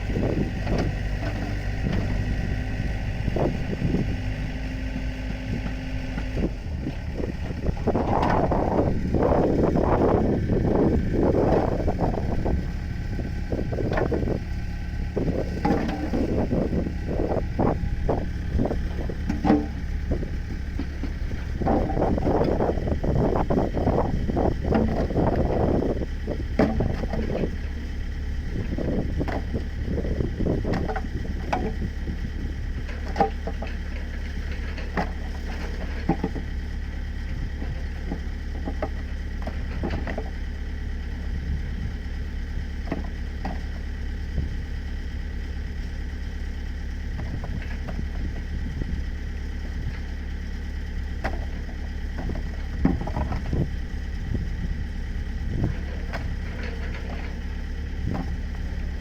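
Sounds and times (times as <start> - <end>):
mini excavator engine running: 0.0 - 59.0.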